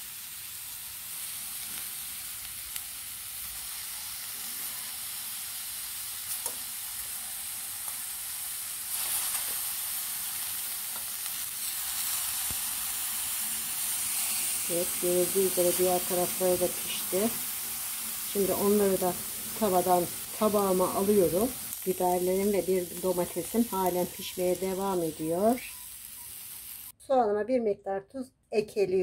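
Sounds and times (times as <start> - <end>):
vegetables sizzling in frying pan: 0.0 - 26.9.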